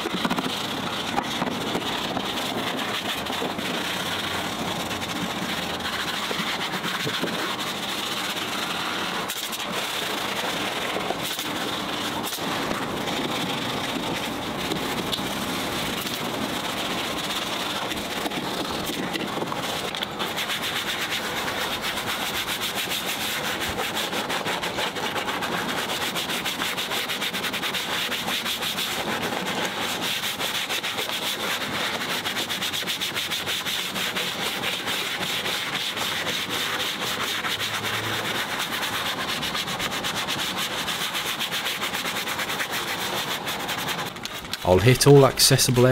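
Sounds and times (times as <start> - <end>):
brush scrubbing wet surfaces: 0.0 - 45.9.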